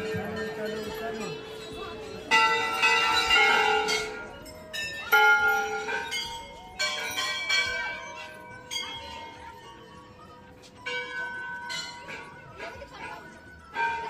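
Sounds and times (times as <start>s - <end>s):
brass bells ringing: 0.0s - 14.0s.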